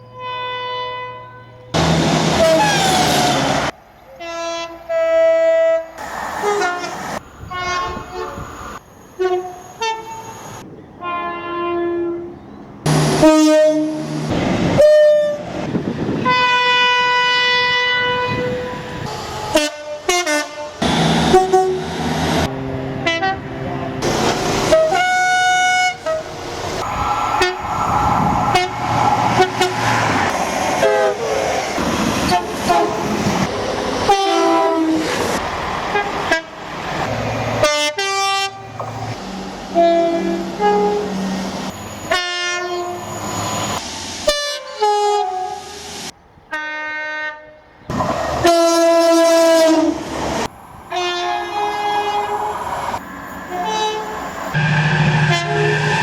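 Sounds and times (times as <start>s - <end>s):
train horns: 0.0s - 45.8s, 46.5s - 47.7s, 48.4s - 50.1s, 50.9s - 56.0s
rail running noise: 0.9s - 56.0s.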